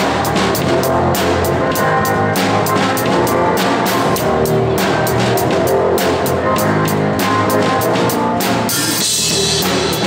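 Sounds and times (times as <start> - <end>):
drum kit: 0.0 - 10.0
rock band playing live: 0.0 - 10.0.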